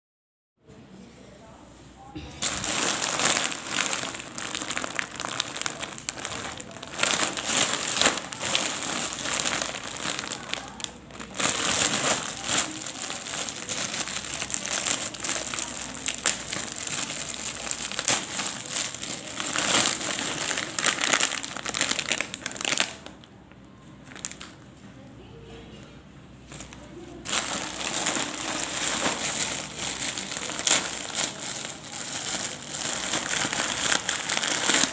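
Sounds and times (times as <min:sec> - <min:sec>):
plastic wrapper crinkling: 0:02.4 - 0:24.6, 0:26.5 - 0:34.9.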